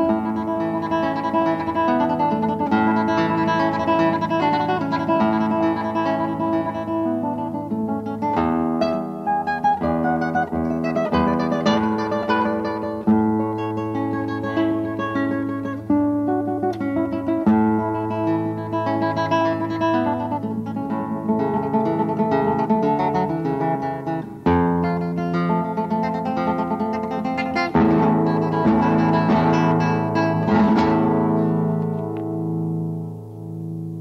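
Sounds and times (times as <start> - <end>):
classical guitar playing: 0.0 - 34.0.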